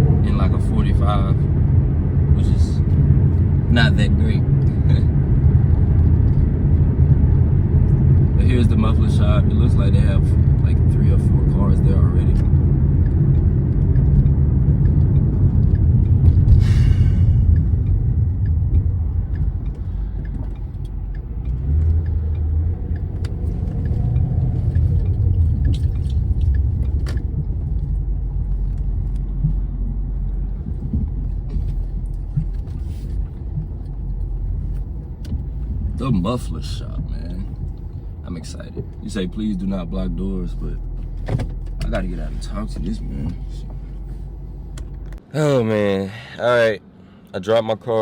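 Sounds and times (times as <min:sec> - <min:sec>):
car engine rumble and road noise: 0:00.0 - 0:48.0.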